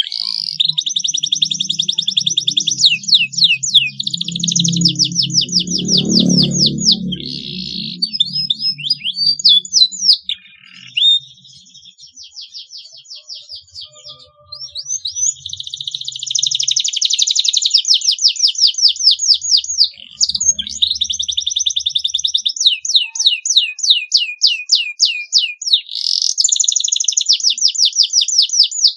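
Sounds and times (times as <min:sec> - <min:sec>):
canary singing: 0:00.0 - 0:28.9.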